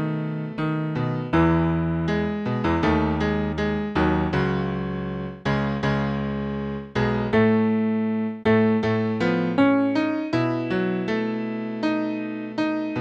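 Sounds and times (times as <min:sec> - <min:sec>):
piano keyboard chords: 0:00.0 - 0:13.0.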